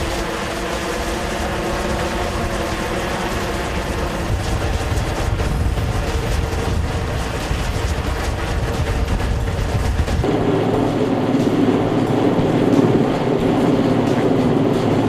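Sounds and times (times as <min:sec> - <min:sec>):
helicopter rotor chopping: 0:00.0 - 0:15.0
turbine drone: 0:00.0 - 0:15.0.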